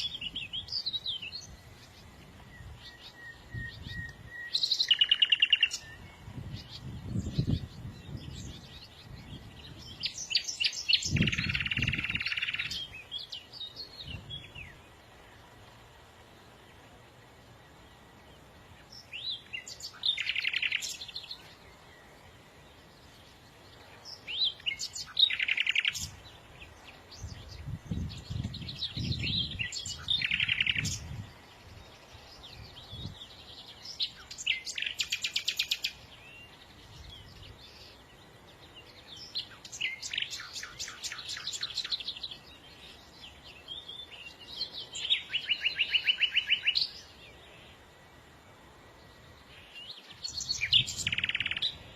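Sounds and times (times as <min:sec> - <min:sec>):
songbird chirps and trills: 0:00.0 - 0:51.9.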